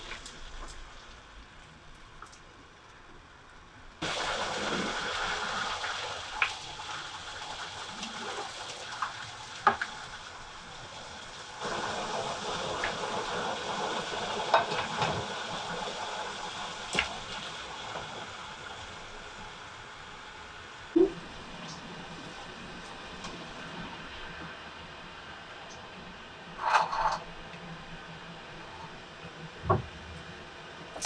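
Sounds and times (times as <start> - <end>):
water boiling in a saucepan: 0.0 - 31.0.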